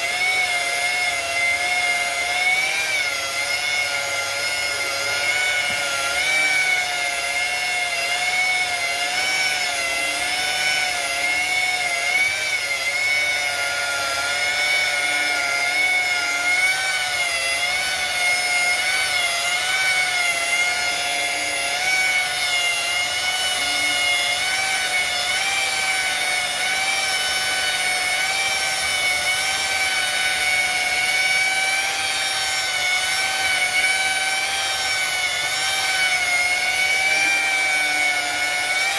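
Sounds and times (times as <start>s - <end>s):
electric polisher motor whine: 0.0s - 38.9s.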